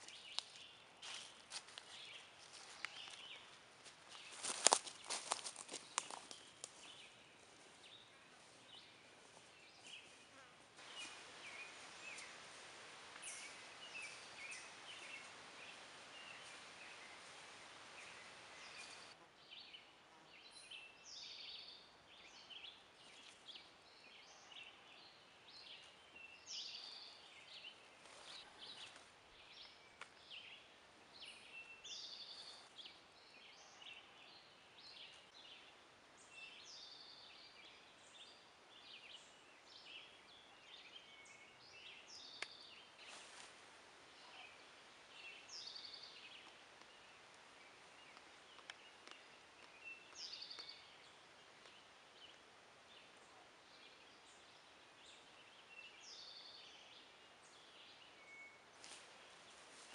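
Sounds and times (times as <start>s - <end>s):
soft steady hiss: 0.0s - 59.9s
songbirds chirping: 0.0s - 59.9s.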